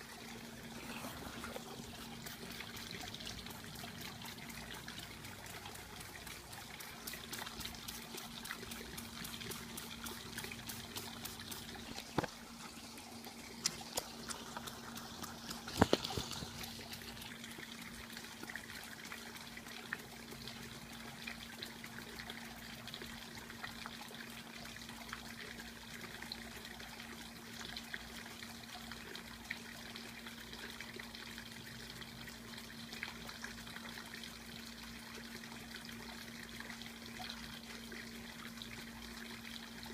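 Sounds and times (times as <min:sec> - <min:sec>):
low steady hum: 0:00.0 - 0:39.9
water trickling: 0:00.0 - 0:39.9.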